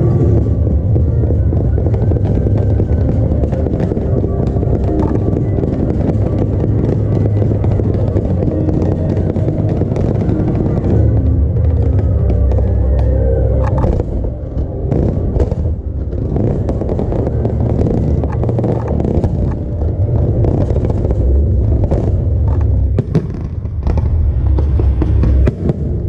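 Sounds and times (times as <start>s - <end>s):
fireworks bangs and crackles: 0.0s - 26.0s
fireworks rumble: 0.0s - 26.0s.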